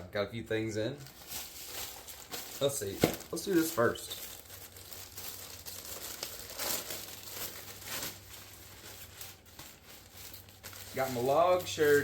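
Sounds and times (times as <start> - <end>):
packaging crinkling and rustling: 0.8 - 12.0.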